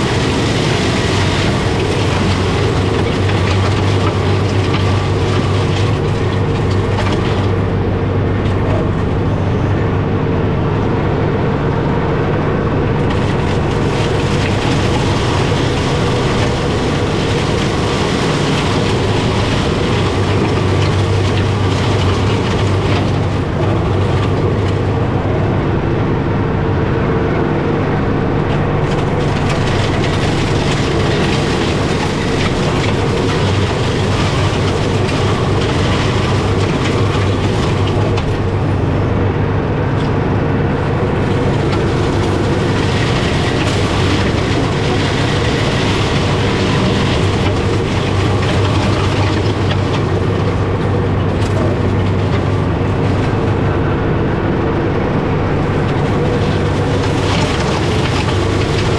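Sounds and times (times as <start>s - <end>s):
tractor diesel engine under load: 0.0s - 58.9s.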